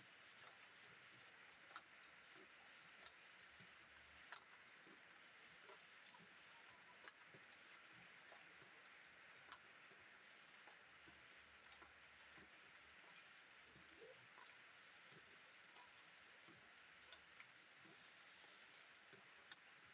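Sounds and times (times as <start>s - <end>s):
faint rain hiss: 0.0s - 19.9s
raindrops ticking: 0.0s - 19.9s.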